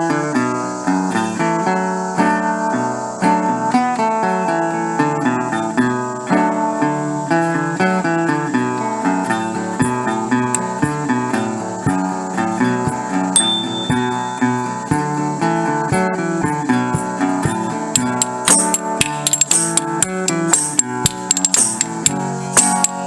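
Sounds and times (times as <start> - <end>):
acoustic guitar picking and strumming: 0.0 - 23.0.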